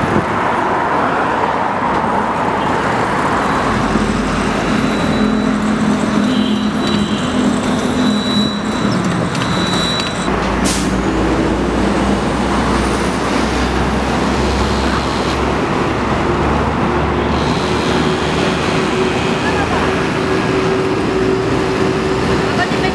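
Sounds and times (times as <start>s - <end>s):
street traffic noise: 0.0s - 22.9s.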